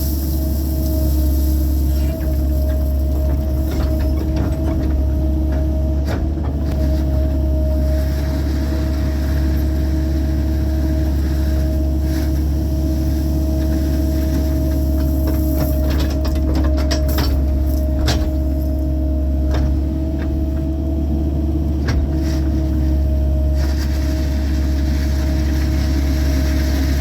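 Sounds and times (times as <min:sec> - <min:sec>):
engine whine: 0:00.0 - 0:27.0
excavator diesel engine running: 0:00.0 - 0:27.0.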